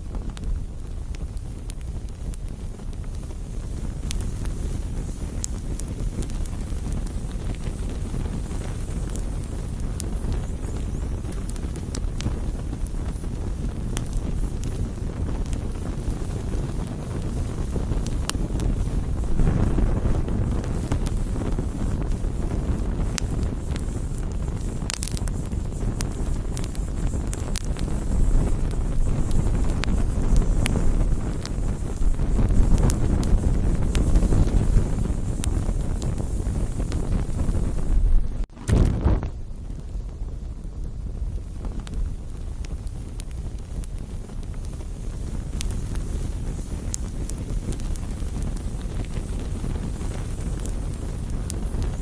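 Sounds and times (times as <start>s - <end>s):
burning wood crackling and popping: 0.0s - 52.0s
campfire flame rumble: 0.0s - 52.0s.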